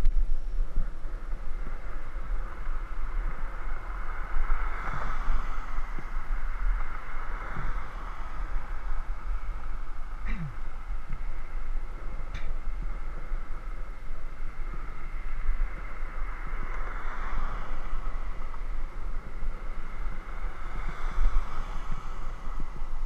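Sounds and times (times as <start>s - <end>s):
tyre and road noise: 0.0s - 23.0s
wind rumbling on microphone: 0.0s - 23.0s.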